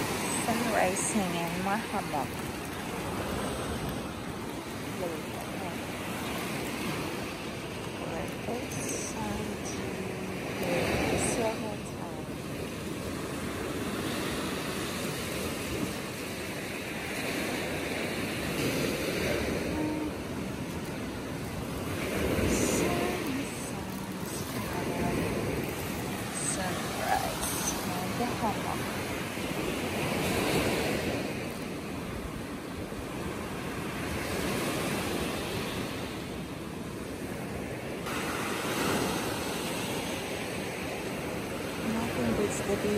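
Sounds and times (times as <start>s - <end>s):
small waves breaking on beach: 0.0s - 42.9s
wind rumbling on microphone: 0.0s - 42.9s.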